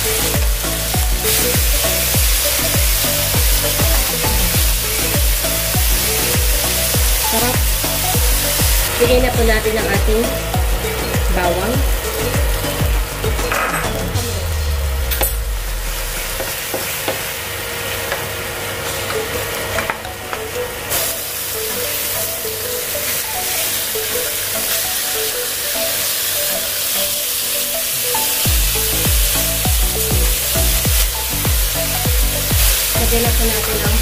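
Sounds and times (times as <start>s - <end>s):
background music: 0.0s - 16.4s, 19.2s - 34.0s
steaks sizzling in a pan: 0.0s - 19.6s, 20.8s - 34.0s.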